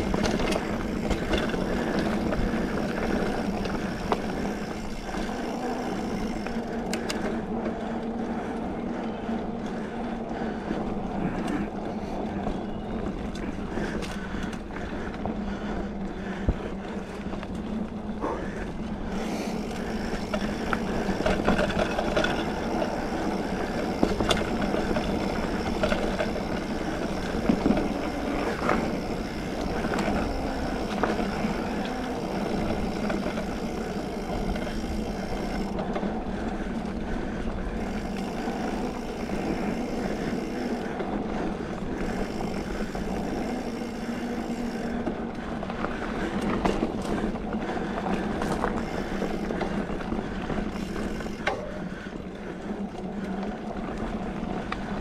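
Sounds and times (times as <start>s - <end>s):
bike rattling and knocking: 0.0s - 9.0s, 9.7s - 55.0s
bike tyres rumbling on dirt: 0.0s - 55.0s.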